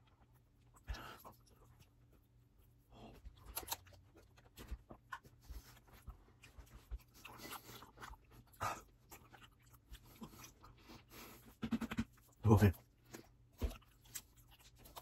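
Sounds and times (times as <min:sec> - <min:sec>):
chewing with wet mouth clicks: 0:00.0 - 0:15.0.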